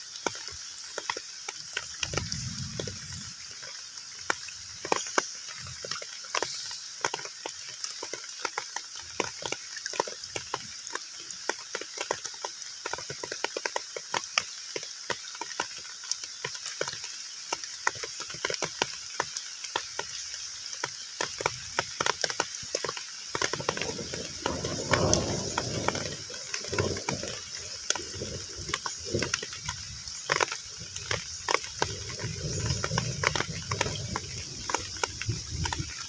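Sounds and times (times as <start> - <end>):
heavy rain on a pond: 0.0 - 36.0
lower rush of water: 0.0 - 36.0.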